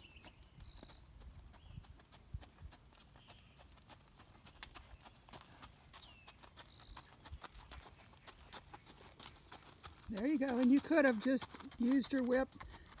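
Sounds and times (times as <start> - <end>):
horse hooves on gravel: 0.0 - 13.0.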